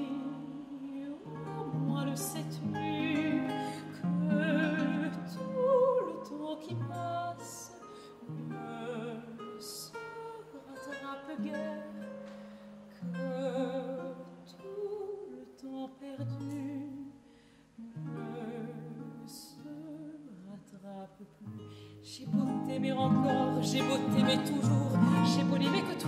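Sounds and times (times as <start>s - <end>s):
woman singing with vibrato: 0.0s - 12.1s, 12.9s - 17.2s, 18.0s - 26.0s
plucked lute: 0.0s - 17.2s, 17.8s - 20.3s, 22.1s - 26.0s.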